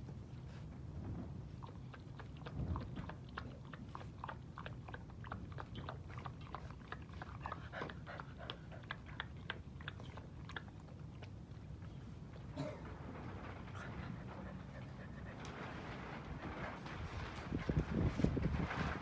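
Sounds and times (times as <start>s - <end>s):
puppy eating from metal bowl: 1.6s - 17.8s.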